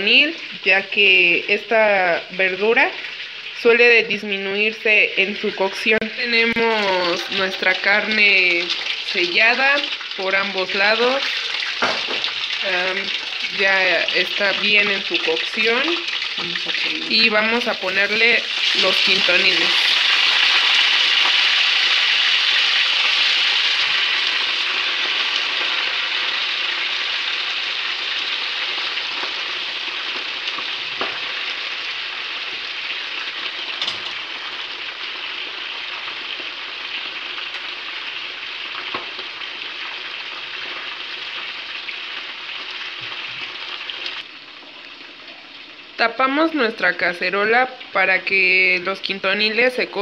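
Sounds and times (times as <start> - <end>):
pork sizzling in fat: 0.0 - 50.0.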